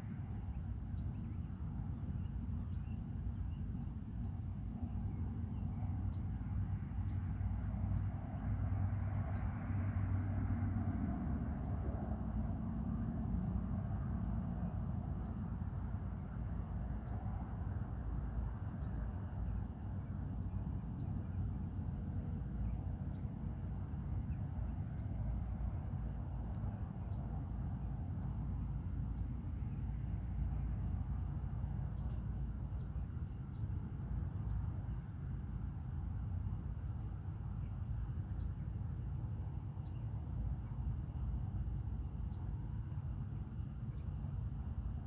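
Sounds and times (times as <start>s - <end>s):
low background rumble: 0.0s - 45.0s.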